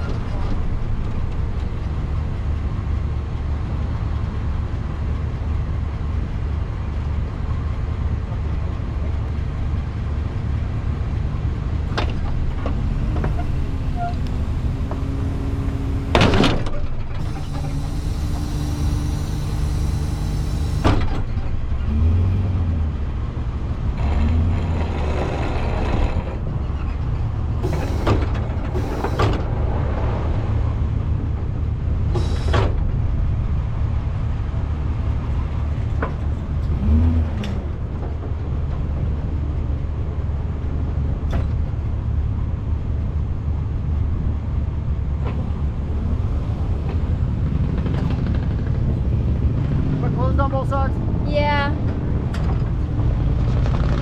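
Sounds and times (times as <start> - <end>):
truck engine droning: 0.0 - 54.0.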